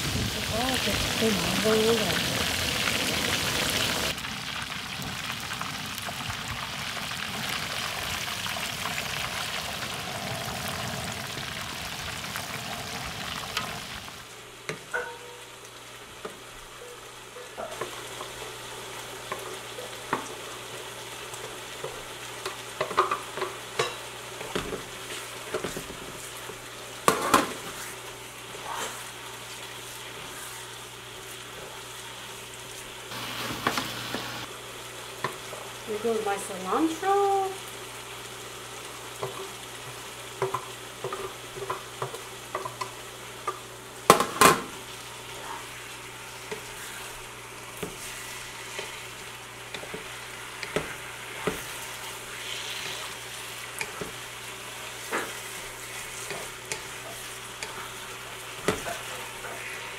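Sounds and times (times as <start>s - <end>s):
fish deep-frying in oil: 0.0s - 59.9s
sauce sizzling in a pan: 0.0s - 59.9s.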